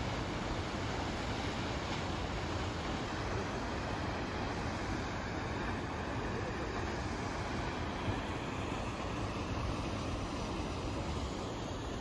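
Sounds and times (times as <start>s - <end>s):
waterfall and river rapids: 0.0s - 12.0s.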